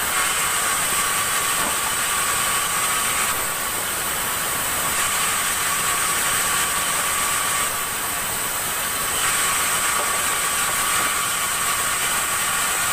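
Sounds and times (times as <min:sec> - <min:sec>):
sawmill saw whining: 0:00.0 - 0:12.9.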